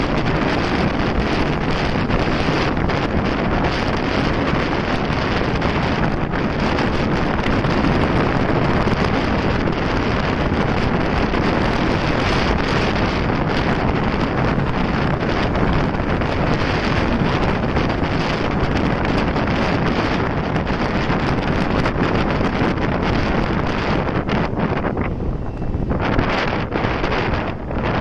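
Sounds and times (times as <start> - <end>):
motorcycle road and engine noise: 0.0 - 28.0
wind rushing over microphone: 0.0 - 28.0.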